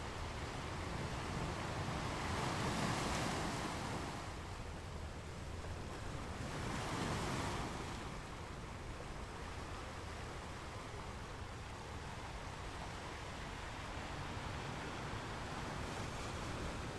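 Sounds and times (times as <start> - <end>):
steady background hiss: 0.0 - 16.9.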